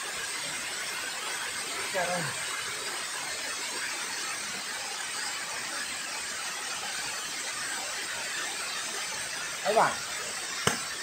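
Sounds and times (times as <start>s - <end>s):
water rushing down spillway: 0.0s - 11.0s.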